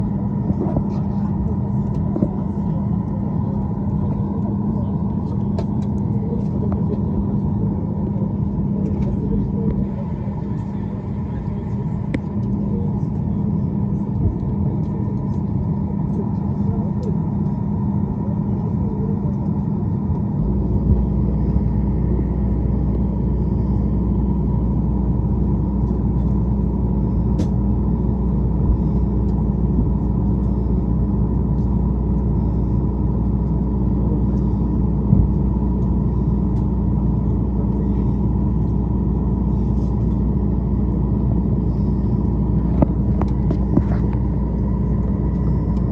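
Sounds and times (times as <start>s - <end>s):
aircraft drone: 0.0s - 45.9s
airport ground machinery hum: 0.0s - 45.9s.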